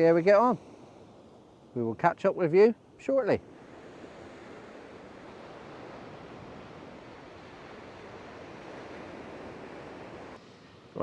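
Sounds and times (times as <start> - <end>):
waves washing on shingle beach: 0.0 - 11.0.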